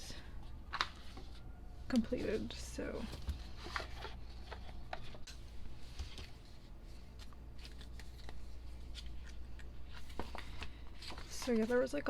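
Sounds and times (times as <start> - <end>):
cardboard and paper handled: 0.7 - 12.0.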